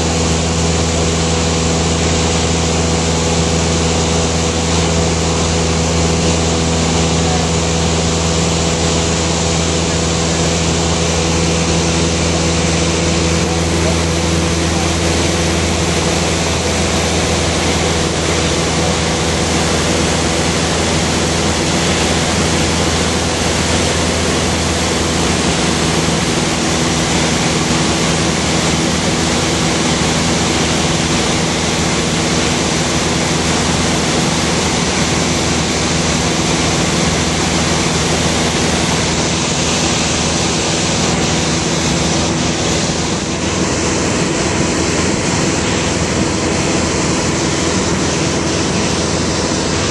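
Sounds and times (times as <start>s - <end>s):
aircraft engine hum: 0.0s - 49.9s.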